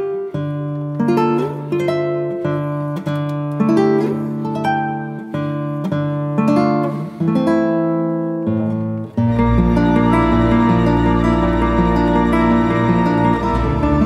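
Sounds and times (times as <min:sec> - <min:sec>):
plucked melody: 0:00.0 - 0:14.0.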